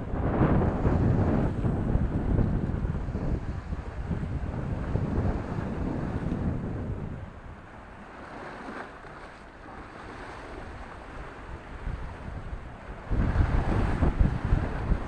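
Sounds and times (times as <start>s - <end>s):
surf washing against rocks: 0.0s - 15.0s
wind buffeting microphone: 0.0s - 15.0s.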